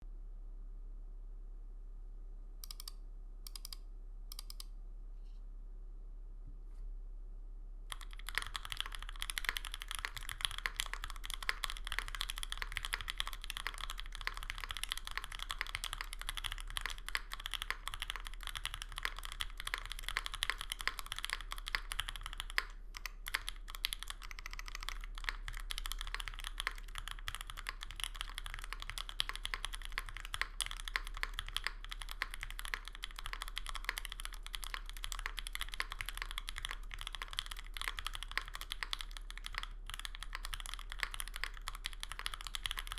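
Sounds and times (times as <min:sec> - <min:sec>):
mechanical keyboard typing: 0:02.6 - 0:02.9, 0:07.9 - 0:42.9.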